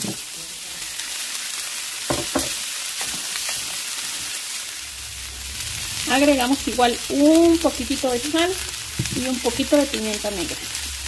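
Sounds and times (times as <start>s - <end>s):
sausages sizzling in a skillet: 0.0s - 11.0s.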